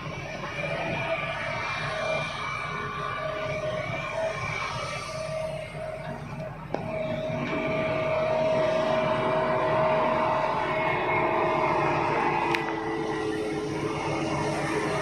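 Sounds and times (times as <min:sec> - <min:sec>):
excavator diesel engine running: 0:00.0 - 0:15.0
machinery whine: 0:00.0 - 0:15.0.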